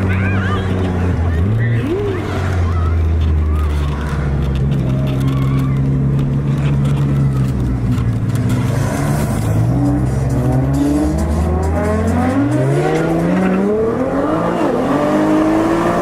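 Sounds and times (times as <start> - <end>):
drag car engine accelerating: 0.0 - 16.0.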